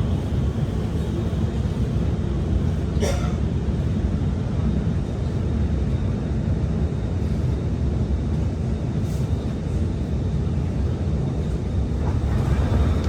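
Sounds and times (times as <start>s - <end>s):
metro train car rumble: 0.0s - 13.0s.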